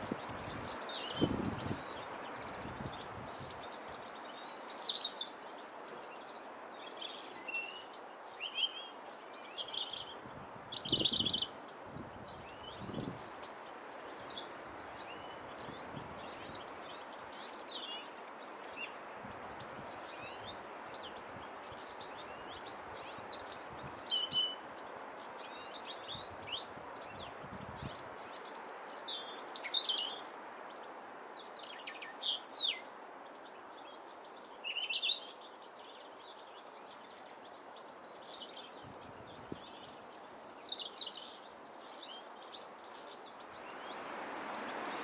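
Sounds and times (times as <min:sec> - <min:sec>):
outdoor hiss: 0:00.0 - 0:45.0
songbirds chirping: 0:00.0 - 0:45.0.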